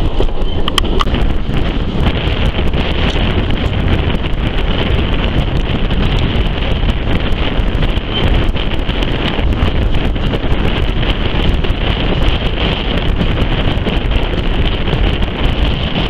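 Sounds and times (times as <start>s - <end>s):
train coaches rumbling on track: 0.0s - 16.0s
wind buffeting microphone: 0.0s - 16.0s.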